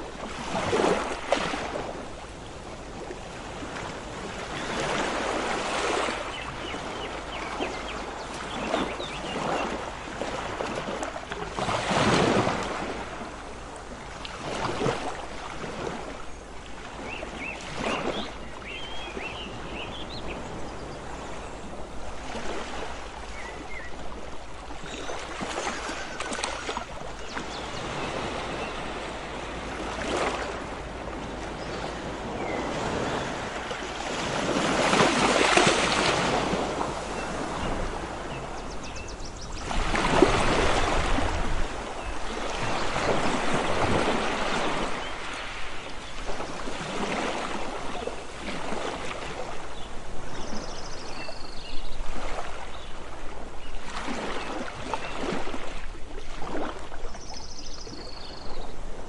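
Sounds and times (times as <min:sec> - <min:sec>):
sea waves breaking on beach: 0:00.0 - 0:51.1, 0:51.9 - 0:59.0.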